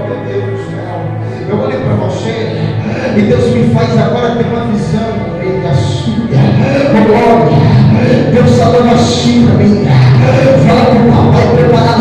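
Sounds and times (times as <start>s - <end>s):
sustained chord music: 0.0s - 12.0s.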